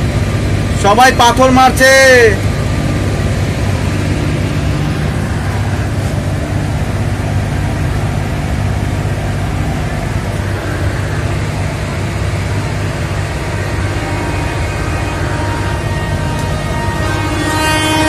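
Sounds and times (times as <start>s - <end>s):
locomotive hum and rumble: 0.0s - 18.0s.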